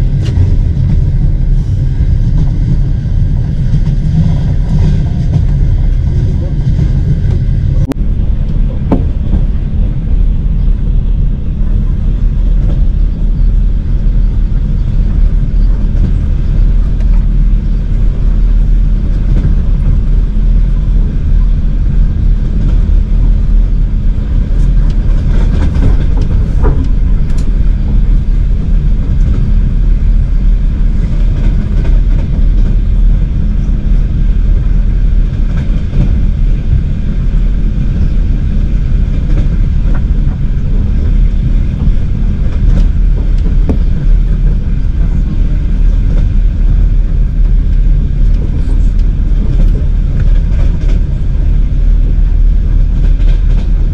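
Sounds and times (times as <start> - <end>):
moving train rumble: 0.0 - 53.9.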